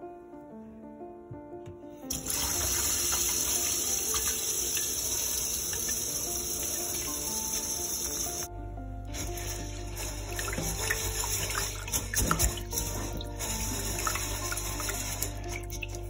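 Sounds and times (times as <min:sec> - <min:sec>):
tap water running into a bowl: 0:02.1 - 0:08.5, 0:09.3 - 0:16.0.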